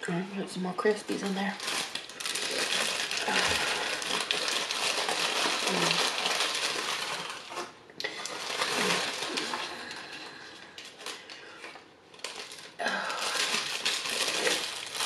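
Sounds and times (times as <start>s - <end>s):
paper bag crinkling: 1.1s - 15.0s.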